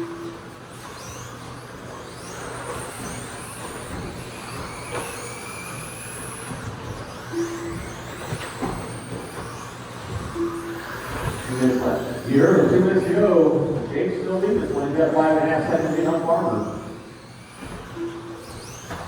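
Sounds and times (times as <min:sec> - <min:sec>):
rc truck motor whines: 0:00.0 - 0:19.0.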